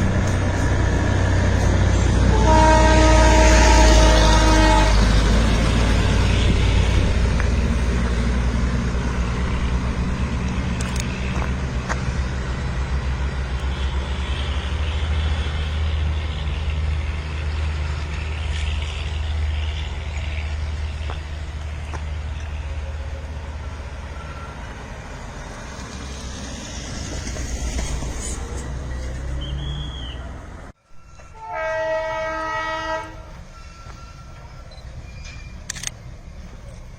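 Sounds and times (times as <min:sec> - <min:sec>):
train engine rumble: 0:00.0 - 0:36.9.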